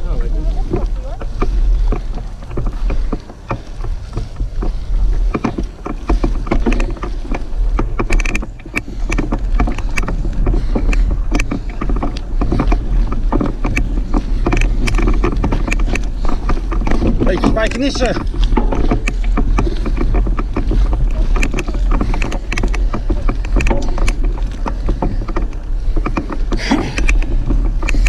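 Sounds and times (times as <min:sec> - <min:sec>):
bike rattling and clicking: 0:00.0 - 0:28.0
tyre and wind rumble: 0:00.0 - 0:28.0.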